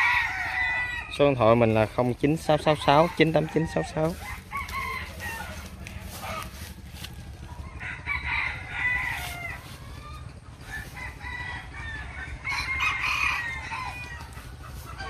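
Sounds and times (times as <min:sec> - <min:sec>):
rooster crowing: 0:00.0 - 0:15.0.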